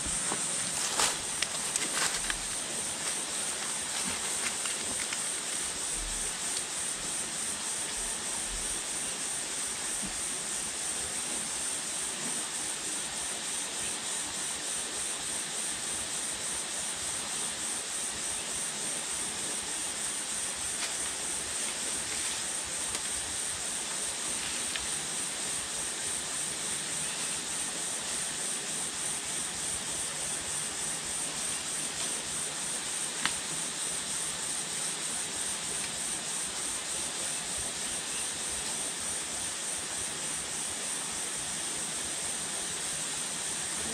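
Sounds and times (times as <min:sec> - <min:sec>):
background hiss: 0:00.0 - 0:43.9
insects droning: 0:00.0 - 0:43.9.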